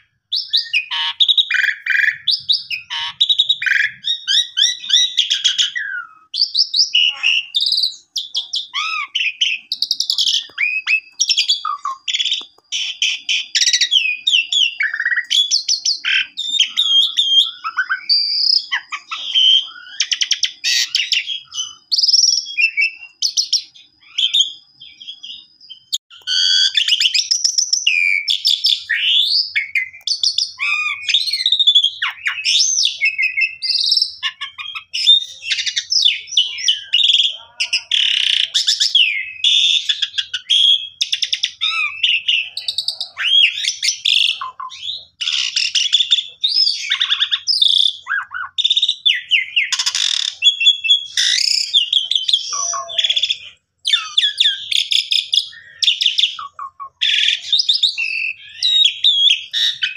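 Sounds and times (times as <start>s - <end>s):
starling singing: 0.0s - 59.9s.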